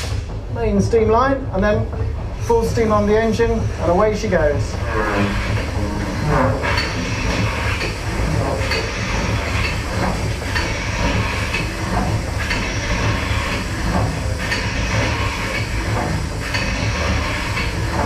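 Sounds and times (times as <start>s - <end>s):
steam engine low rumble: 0.0s - 18.0s.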